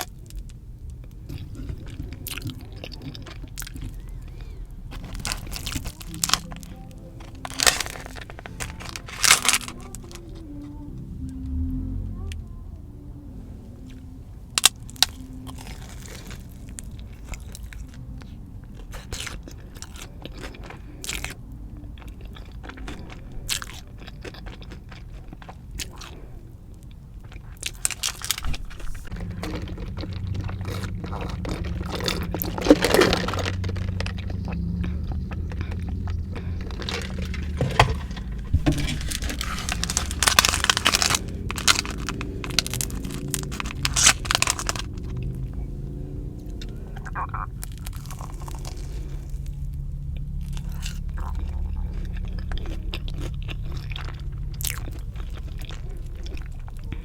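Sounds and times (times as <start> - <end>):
crunchy eating and chewing: 0.0 - 12.4, 13.6 - 57.0
low hum: 0.0 - 57.0.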